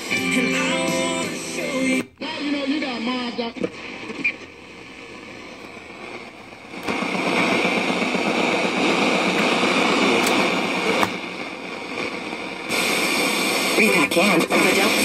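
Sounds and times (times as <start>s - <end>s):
radio clicks: 1.9s - 15.0s
radio static rush: 2.0s - 15.0s.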